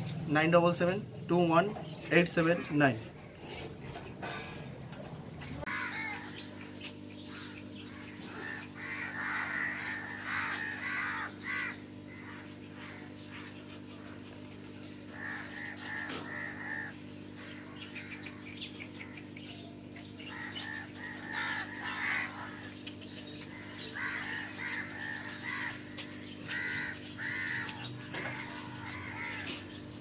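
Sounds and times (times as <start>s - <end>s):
steady low hum: 0.0s - 30.0s
crows cawing: 5.4s - 30.0s.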